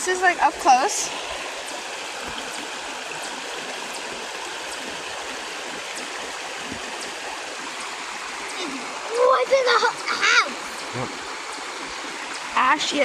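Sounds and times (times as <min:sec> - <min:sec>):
creek water over rocks: 0:00.0 - 0:13.0.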